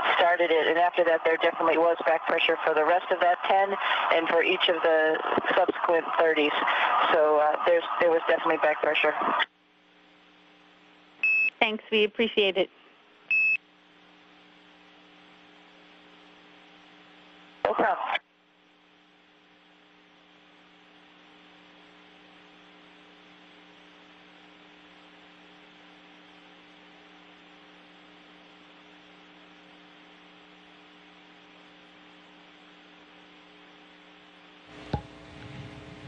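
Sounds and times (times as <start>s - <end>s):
electrical hum with hiss: 0.0s - 36.0s.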